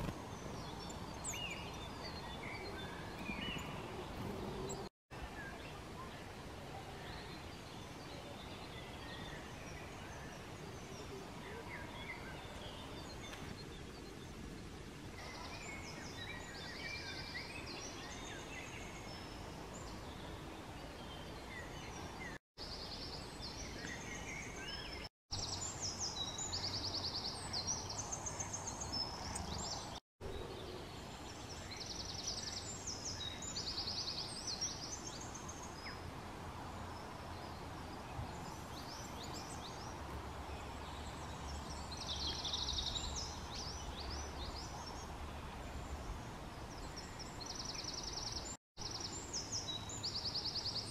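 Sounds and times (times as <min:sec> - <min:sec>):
outdoor background noise: 0:00.0 - 0:50.9
songbirds chirping and trilling: 0:00.0 - 0:50.9.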